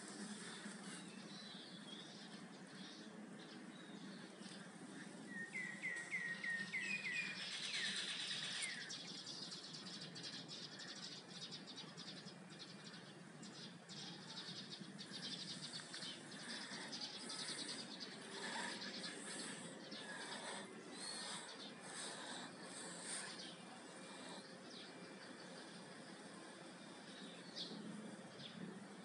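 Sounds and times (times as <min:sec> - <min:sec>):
outdoor background noise: 0:00.0 - 0:29.0
bird chirping: 0:00.2 - 0:28.7.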